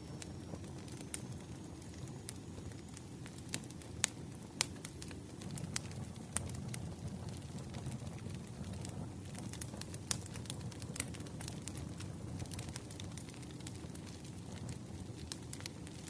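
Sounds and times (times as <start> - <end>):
fire crackling and popping: 0.0 - 16.0
rumble of flames: 0.0 - 16.0.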